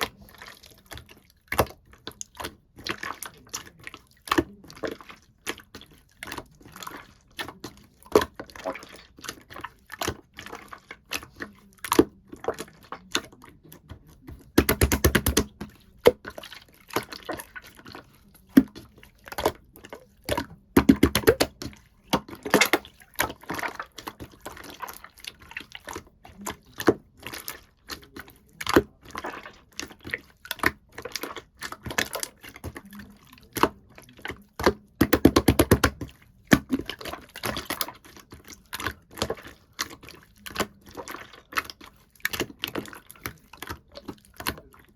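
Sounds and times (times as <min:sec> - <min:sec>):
slime being squished: 0:00.0 - 0:44.9.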